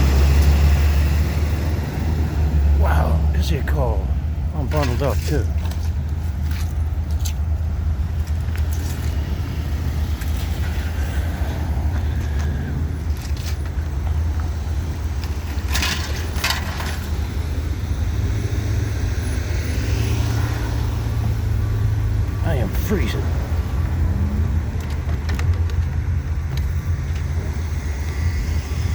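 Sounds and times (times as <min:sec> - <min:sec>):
vehicle engine rumbling: 0:00.0 - 0:28.9.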